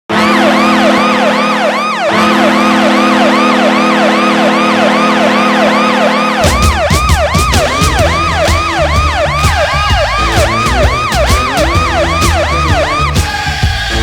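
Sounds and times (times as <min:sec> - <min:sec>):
goal horn chord: 0:00.1 - 0:13.4
siren wailing: 0:00.1 - 0:14.0.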